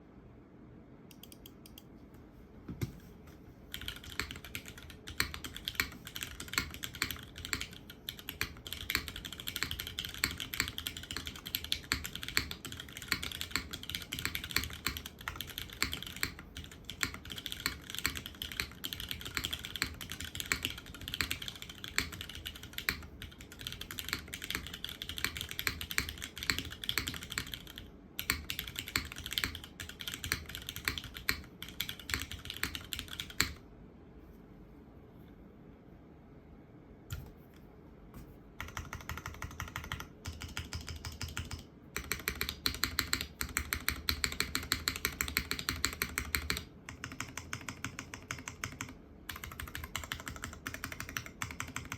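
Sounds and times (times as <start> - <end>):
mechanical keyboard typing: 3.7 - 33.6, 38.6 - 51.9.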